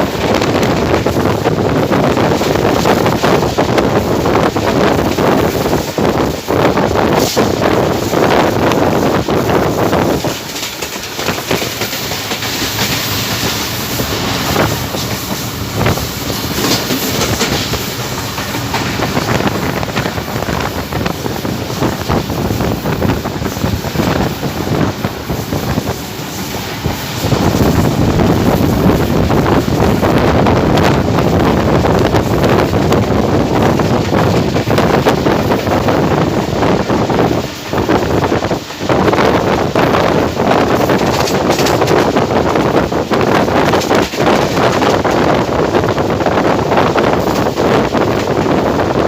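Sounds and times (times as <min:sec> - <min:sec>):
rushing train noise: 0:00.0 - 0:49.0
train wheels clattering: 0:00.0 - 0:49.0.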